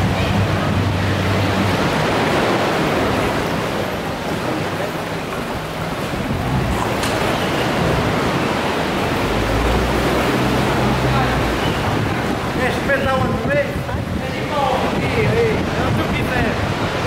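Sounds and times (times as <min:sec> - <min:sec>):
outboard motors idling hum: 0:00.0 - 0:16.0
surf washing in sea cave: 0:00.0 - 0:17.0.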